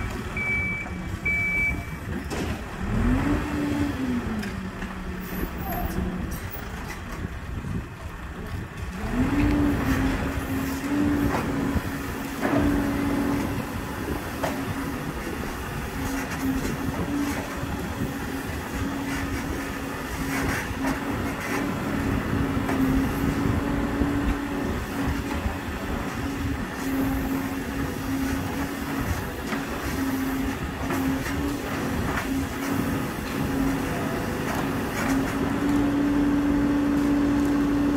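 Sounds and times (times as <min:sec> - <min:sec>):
diesel engine revving: 0:00.0 - 0:37.9.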